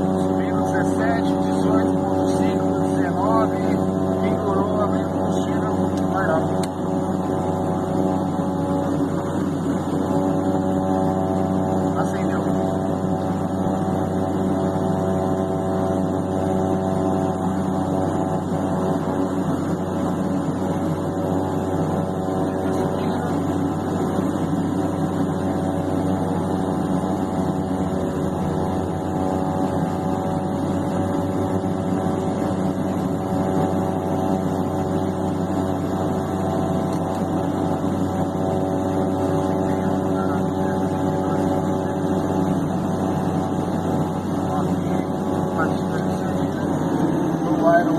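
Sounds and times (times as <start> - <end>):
turboprop engines idling: 0.0 - 47.9.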